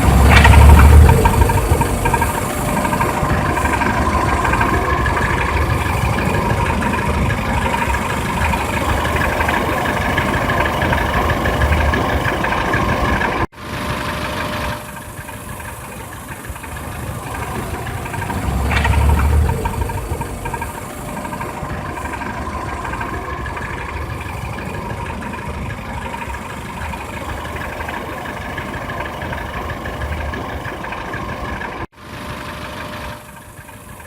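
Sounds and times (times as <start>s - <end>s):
car engine running with abnormal noise: 0.0s - 34.0s.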